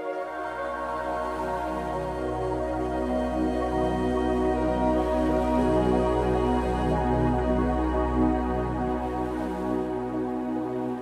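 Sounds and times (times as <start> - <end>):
soft ambient music chords: 0.0 - 11.0.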